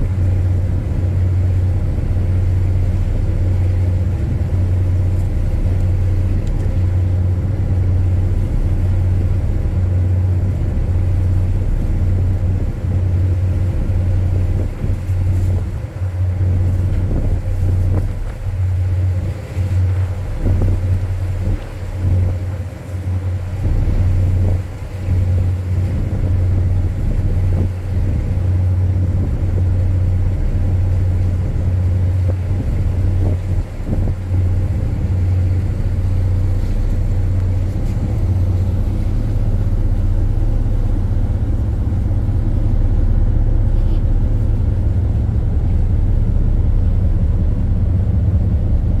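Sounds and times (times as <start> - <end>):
ship machinery droning: 0.0 - 49.0.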